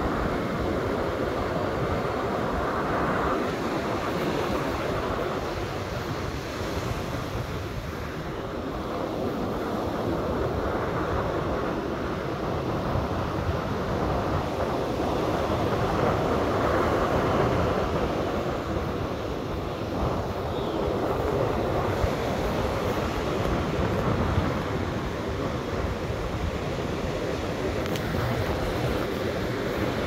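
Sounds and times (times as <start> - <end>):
breaking surf: 0.0 - 30.0
wind buffeting microphone: 0.0 - 30.0.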